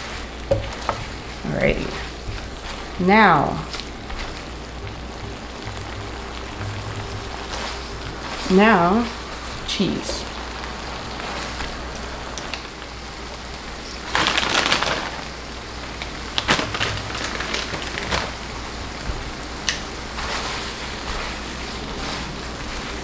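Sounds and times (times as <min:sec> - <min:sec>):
noodles sizzling in a pan: 0:00.0 - 0:23.0.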